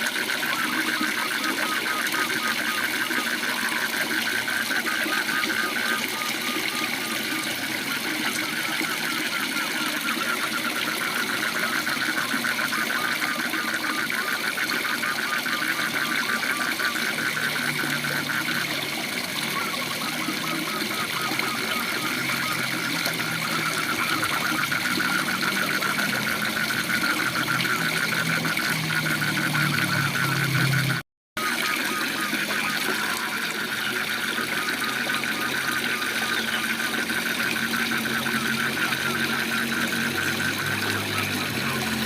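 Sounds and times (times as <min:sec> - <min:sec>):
frogs calling: 0:00.0 - 0:42.0.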